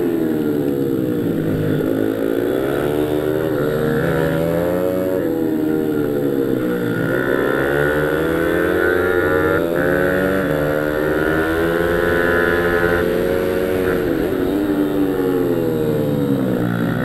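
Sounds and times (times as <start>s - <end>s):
small motorbike engine revving: 0.0s - 17.0s.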